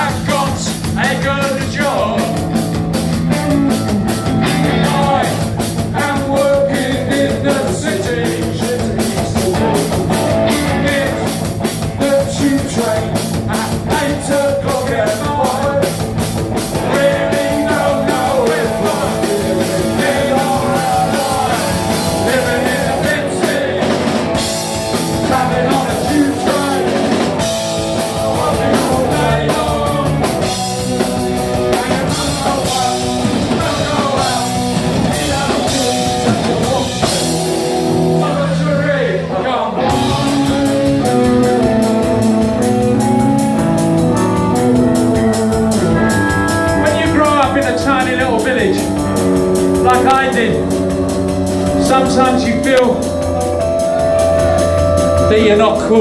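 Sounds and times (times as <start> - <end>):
person singing: 0.0 - 2.6, 3.3 - 16.0, 16.7 - 37.4, 38.0 - 50.9, 51.6 - 56.0
bass guitar: 0.0 - 56.0
driving drum kit: 0.0 - 56.0
electric guitars: 0.0 - 56.0.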